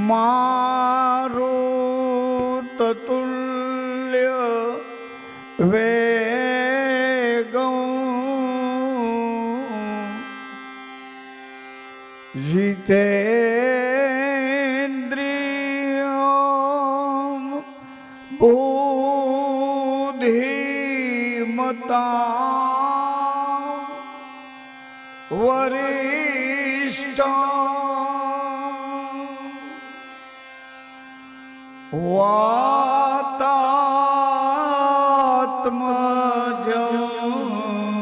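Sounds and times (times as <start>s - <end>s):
man singing with vibrato: 0.0s - 38.0s.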